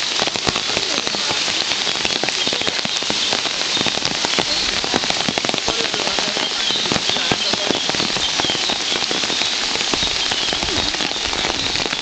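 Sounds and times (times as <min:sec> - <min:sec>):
raindrops ticking: 0:00.0 - 0:12.0
steady rain falling: 0:00.0 - 0:12.0.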